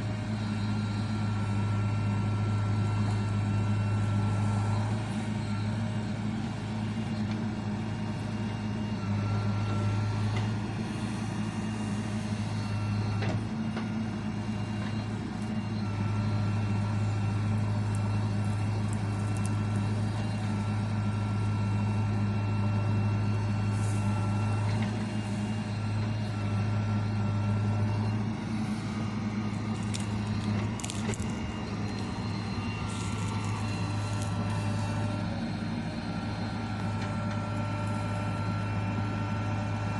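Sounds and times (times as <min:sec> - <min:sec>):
diesel engine running: 0:00.0 - 0:39.9
thin whine: 0:00.0 - 0:39.9.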